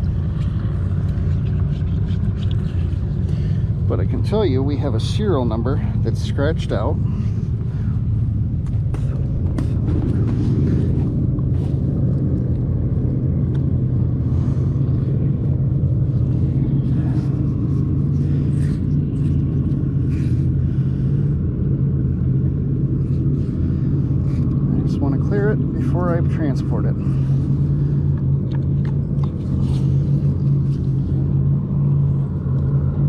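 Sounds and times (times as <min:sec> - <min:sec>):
low engine hum: 0:00.0 - 0:33.0.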